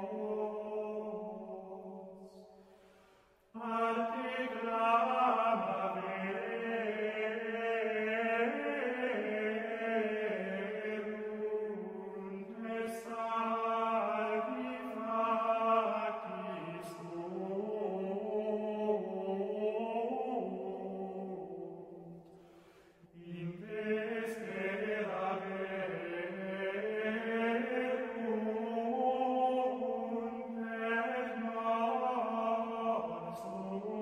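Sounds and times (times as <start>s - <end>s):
slow vocal chant: 0.0s - 34.0s.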